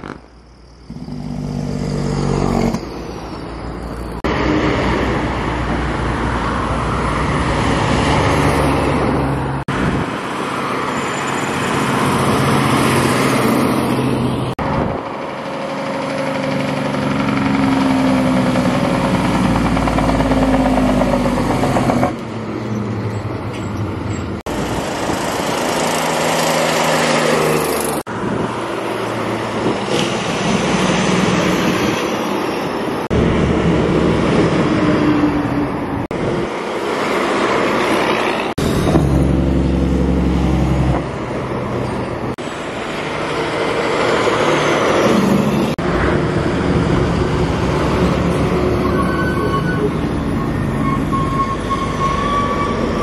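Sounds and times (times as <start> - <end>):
heavy trucks driving past: 0.0 - 53.0
tyre and road noise: 0.0 - 53.0.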